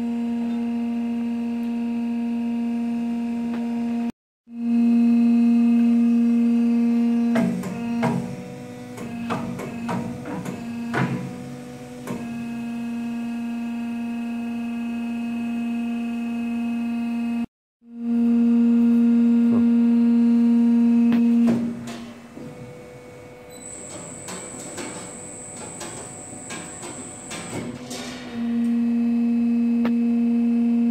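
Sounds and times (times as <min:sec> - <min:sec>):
machine electric hum: 0:00.0 - 0:30.9.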